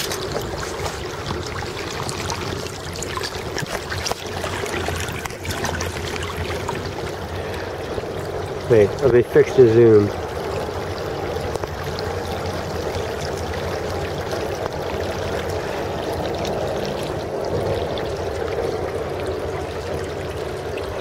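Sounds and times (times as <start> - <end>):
water rushing on stony beach: 0.0 - 21.0.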